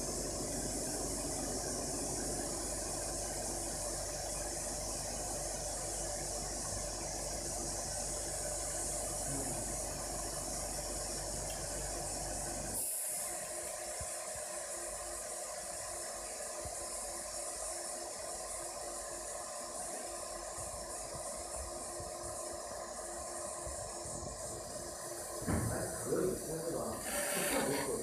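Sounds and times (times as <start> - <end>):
high hiss: 0.0 - 28.0
laser marking machine humming: 0.0 - 28.0.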